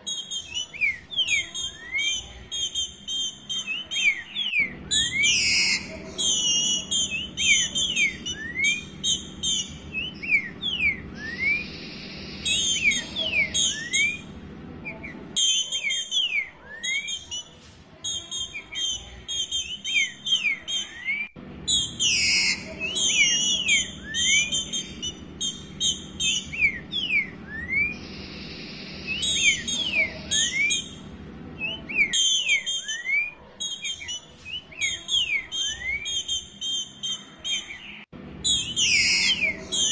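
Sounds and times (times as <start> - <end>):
bird whistling and chattering: 0.0 - 39.9.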